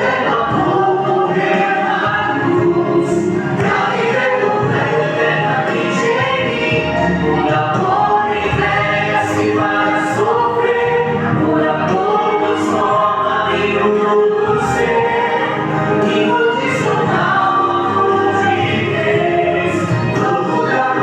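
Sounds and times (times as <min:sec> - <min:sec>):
choir singing gospel song: 0:00.0 - 0:21.0
musical accompaniment: 0:00.0 - 0:21.0.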